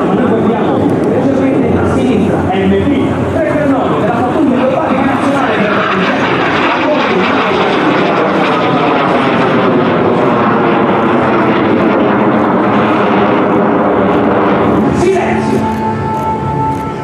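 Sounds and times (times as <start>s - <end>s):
jet engine rush in flight: 0.0s - 17.0s.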